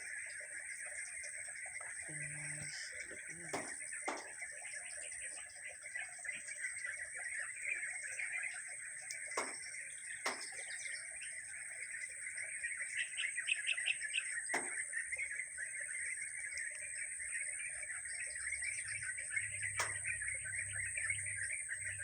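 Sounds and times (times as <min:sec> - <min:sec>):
small birds chirping: 0:00.0 - 0:22.0
steady high-pitched whine: 0:00.0 - 0:22.0.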